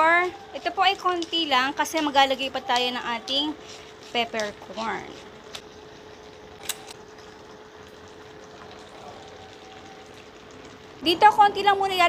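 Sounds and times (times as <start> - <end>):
chicken sizzling in a wok: 0.0 - 12.0.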